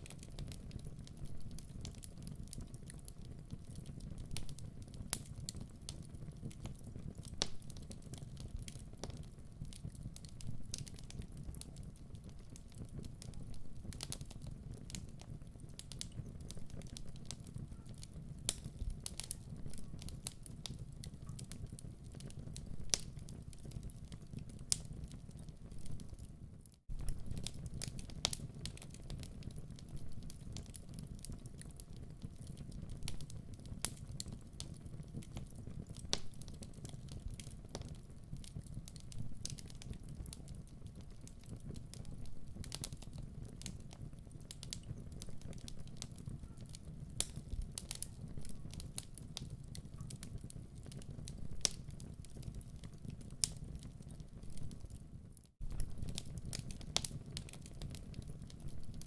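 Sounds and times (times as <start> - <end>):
fire popping: 0.0 - 59.0
fireplace fire crackling: 0.0 - 59.0.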